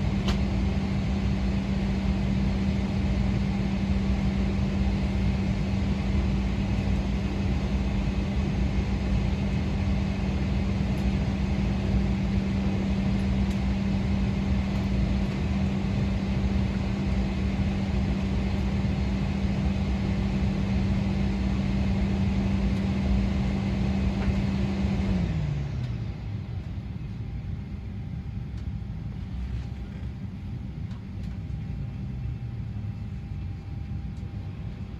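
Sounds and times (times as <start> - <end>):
cabin air-conditioning drone: 0.0 - 34.9.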